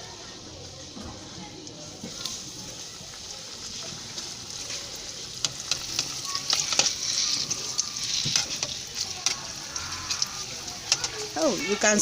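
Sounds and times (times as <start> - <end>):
dough deep-frying in oil: 0.0 - 12.0
oil popping and crackling: 0.0 - 12.0.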